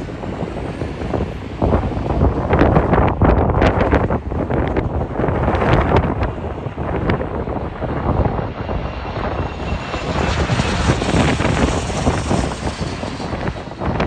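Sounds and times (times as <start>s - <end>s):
jet airliner engines passing: 0.0s - 14.0s
wind buffeting microphone: 0.0s - 14.0s.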